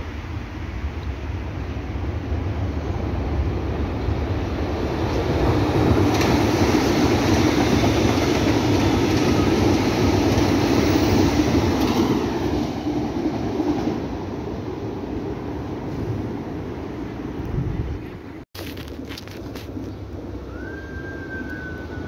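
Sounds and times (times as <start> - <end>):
train passing on rails: 0.0 - 18.4, 19.0 - 22.0.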